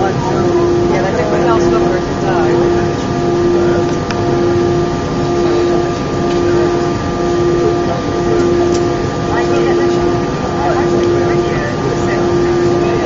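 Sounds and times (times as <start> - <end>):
aircraft cabin engine noise: 0.0 - 13.0
mid-pitched hum: 0.0 - 13.0.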